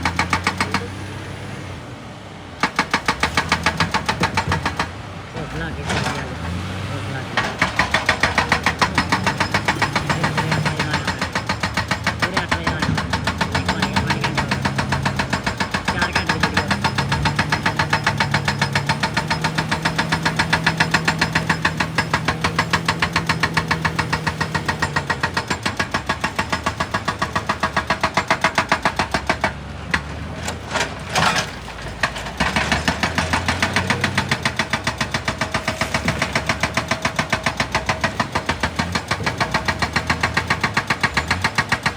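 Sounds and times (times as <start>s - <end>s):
hydraulic breaker hammering rock: 0.0s - 1.1s, 2.6s - 41.9s
diesel engine running: 0.0s - 41.9s.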